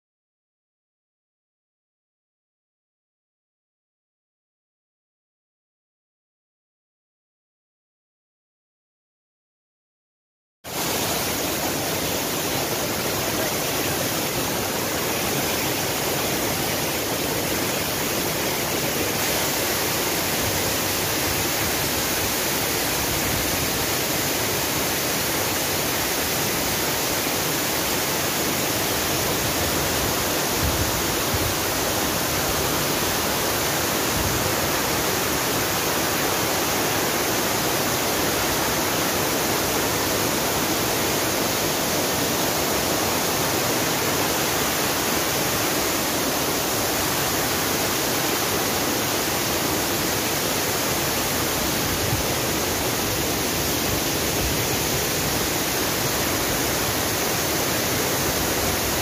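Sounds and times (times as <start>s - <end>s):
stream rushing over rocks: 10.7s - 59.0s.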